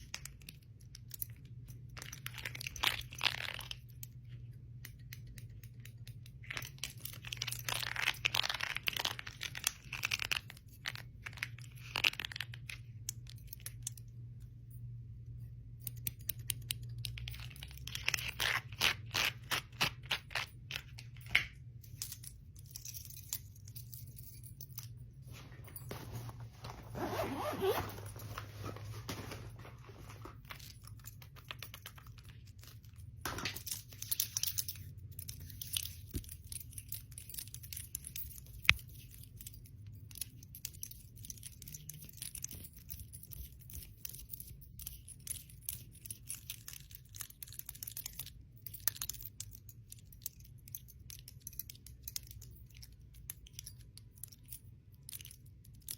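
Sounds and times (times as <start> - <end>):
bangles and rings clinking: 0.0 - 28.4, 30.2 - 55.9.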